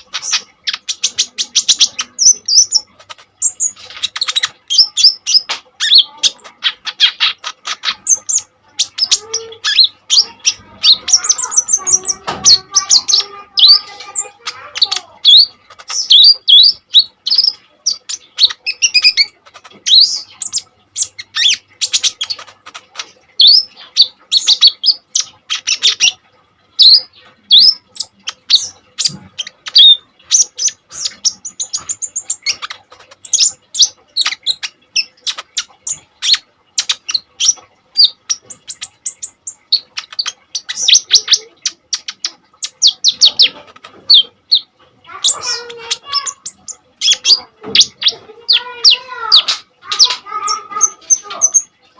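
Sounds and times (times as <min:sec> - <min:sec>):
sunbird singing chirps and trills: 0:00.0 - 0:51.9.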